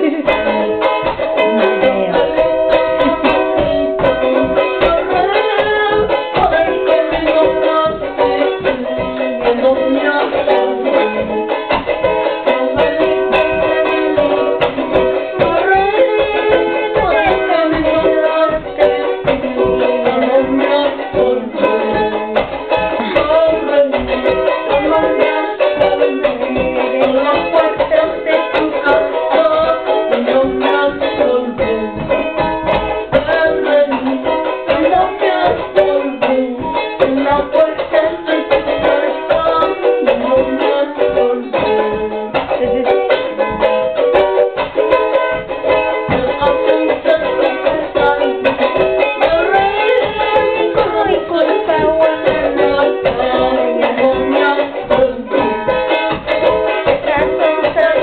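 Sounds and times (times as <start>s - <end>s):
small lute fast strumming: 0.0s - 58.0s.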